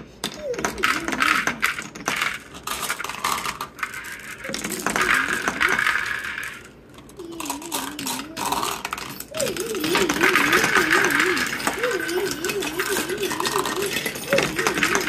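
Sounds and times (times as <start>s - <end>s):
marbles clicking against wood: 0.2s - 15.0s
marbles rolling on wooden track: 0.2s - 15.0s.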